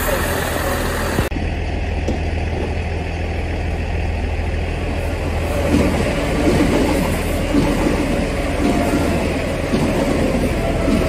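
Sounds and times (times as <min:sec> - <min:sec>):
diesel train rumbling past: 0:00.0 - 0:11.0.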